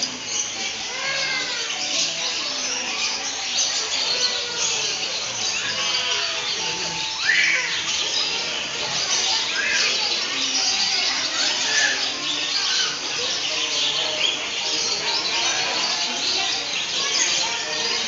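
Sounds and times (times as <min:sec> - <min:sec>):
birds chirping and squawking: 0:00.0 - 0:18.0.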